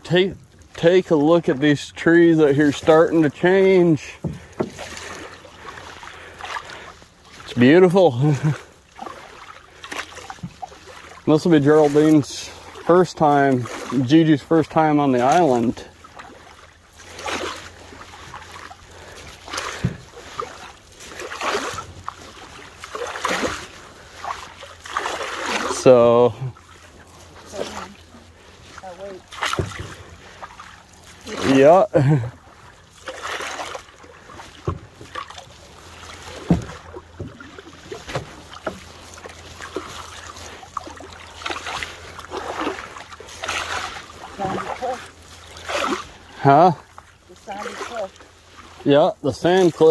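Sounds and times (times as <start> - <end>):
canoe paddle swishing water: 0.0 - 49.9.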